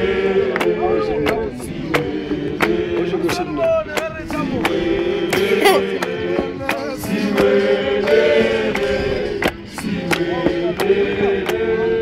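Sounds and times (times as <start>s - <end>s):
men singing a hymn in harmony: 0.0s - 12.0s
sharp hand claps: 0.4s - 11.7s.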